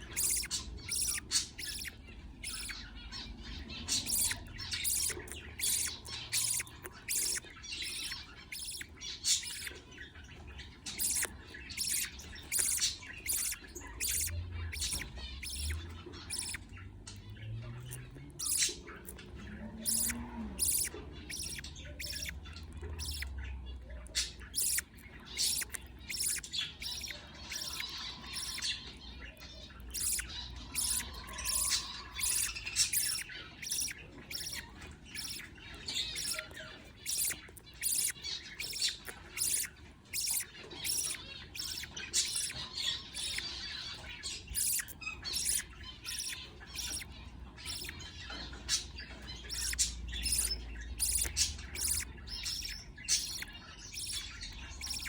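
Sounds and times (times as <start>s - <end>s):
budgerigars cheeping: 0.0s - 55.0s
soft warbling chatter: 0.0s - 55.0s.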